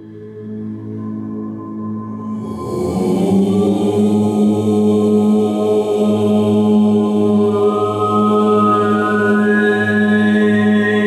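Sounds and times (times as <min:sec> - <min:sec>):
voices chanting a low drone: 0:00.0 - 0:11.0.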